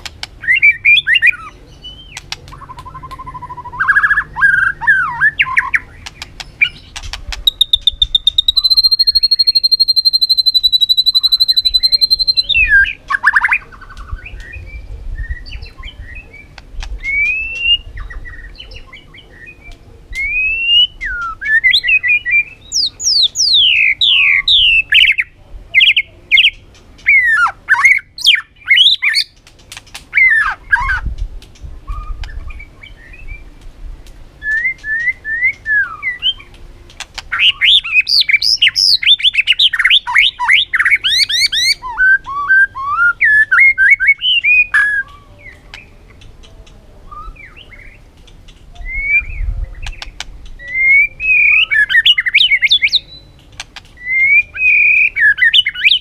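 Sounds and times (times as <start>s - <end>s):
songbird singing whistled phrases: 0.4s - 29.4s, 31.9s - 33.5s, 34.4s - 36.6s, 37.3s - 46.2s, 47.0s - 48.0s, 48.7s - 56.0s.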